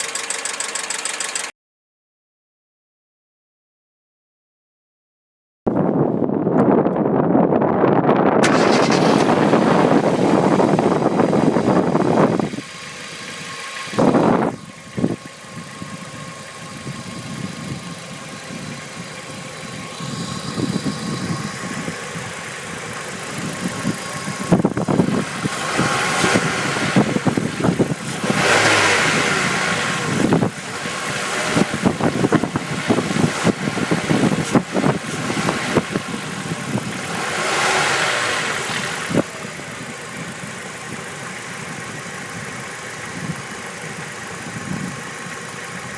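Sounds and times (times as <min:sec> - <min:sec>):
car engine idling: 0:00.0 - 0:01.5, 0:08.4 - 0:45.9.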